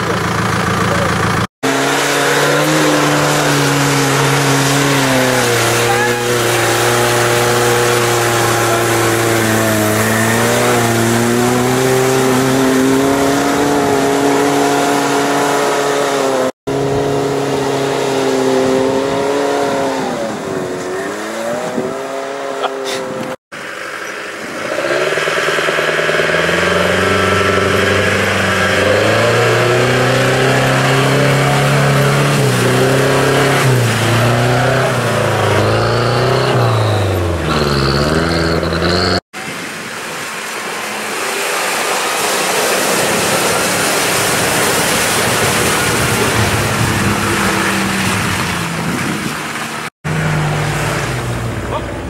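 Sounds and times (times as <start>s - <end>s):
tyres spinning in mud: 0.0s - 16.3s, 23.9s - 52.0s
off-road vehicle engine revving: 0.0s - 39.3s, 40.4s - 52.0s.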